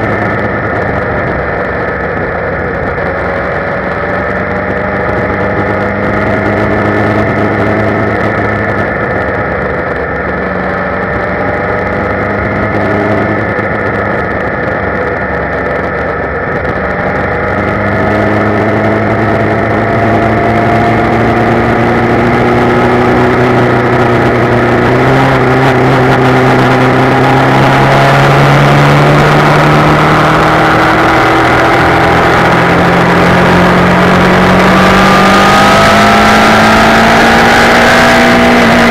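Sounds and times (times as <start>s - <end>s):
motorcycle engine accelerating: 0.0s - 38.9s
wind rush: 0.0s - 38.9s.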